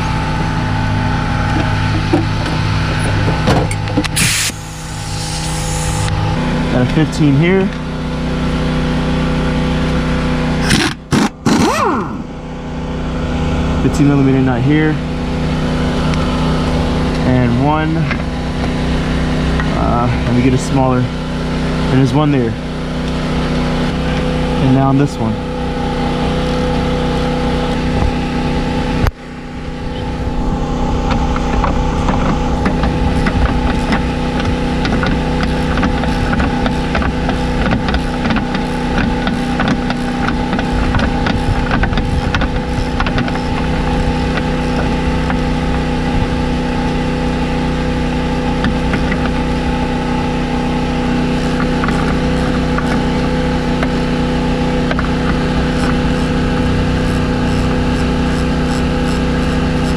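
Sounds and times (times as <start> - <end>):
steady engine-like hum: 0.0 - 59.9.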